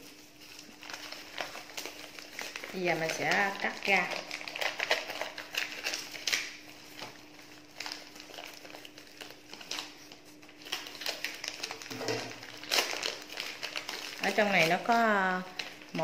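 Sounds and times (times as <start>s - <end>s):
plastic packaging crinkling: 0.0s - 16.0s
scissors cutting plastic: 0.7s - 16.0s.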